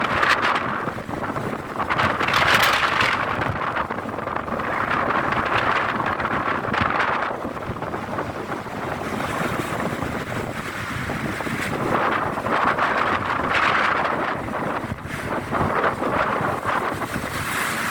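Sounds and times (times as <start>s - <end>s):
strong wind on microphone: 0.0s - 17.9s.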